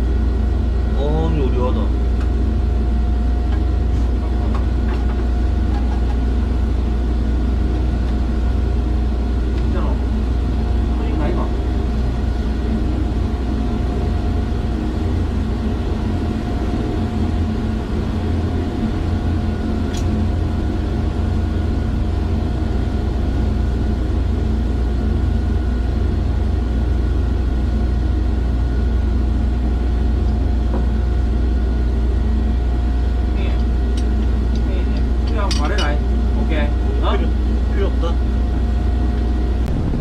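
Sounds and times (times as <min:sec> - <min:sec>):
industrial machinery humming: 0:00.0 - 0:40.0
machinery whine: 0:00.0 - 0:40.0.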